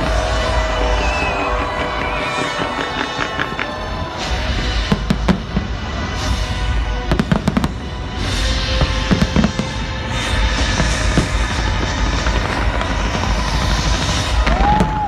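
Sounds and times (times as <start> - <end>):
fireworks bangs: 0.0 - 15.0
music playing: 0.0 - 15.0
steady low rumble: 0.0 - 15.0.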